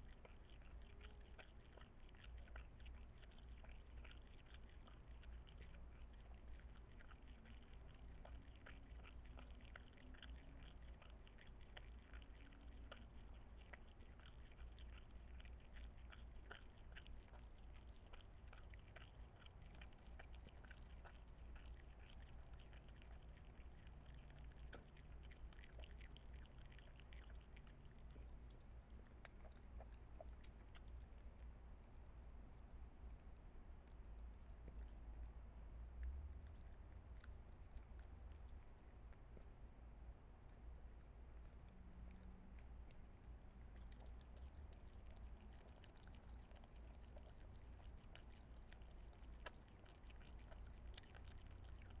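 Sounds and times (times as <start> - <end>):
low steady hum: 0.0 - 52.0
wet chewing and smacking: 0.0 - 52.0.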